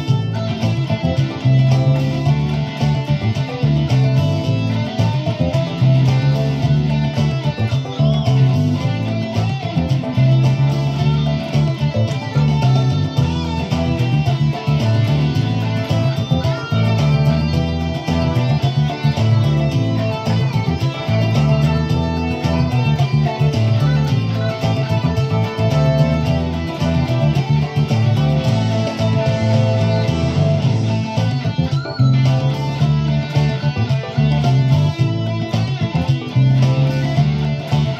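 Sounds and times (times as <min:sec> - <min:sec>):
bass line: 0:00.0 - 0:37.9
drum beat: 0:00.0 - 0:37.9
electric guitar boogie: 0:00.0 - 0:37.9.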